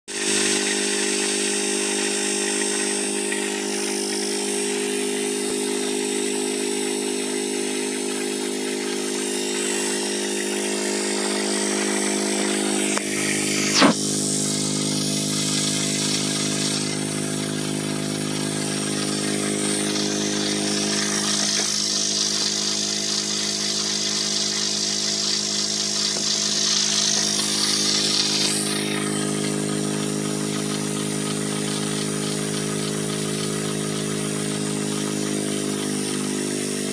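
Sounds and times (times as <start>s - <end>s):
sharp high-pitched sound: 0.1s - 32.5s
washing machine motor humming: 0.1s - 36.9s
deeper hum: 1.6s - 36.9s.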